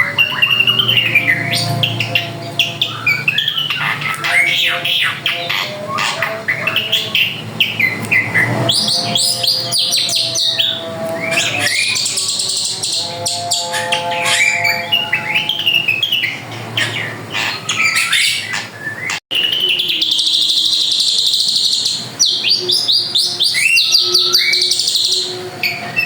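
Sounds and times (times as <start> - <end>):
bird chirps and whistles: 0.0 - 26.0
buzzy bird trill: 0.0 - 26.0.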